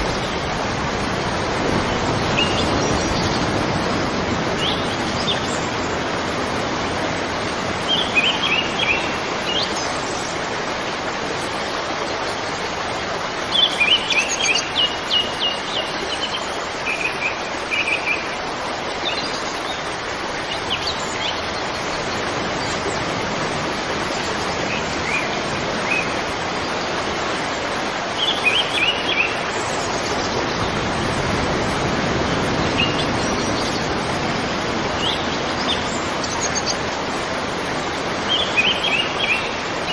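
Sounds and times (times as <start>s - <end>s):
songbirds chirping: 0.0s - 39.9s
steady rushing noise: 0.0s - 39.9s.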